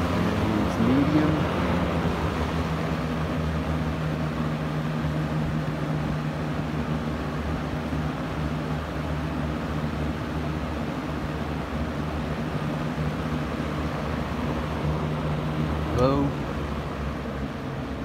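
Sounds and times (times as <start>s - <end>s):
box fan air rush: 0.0s - 18.0s
fan motor hum: 0.0s - 18.0s.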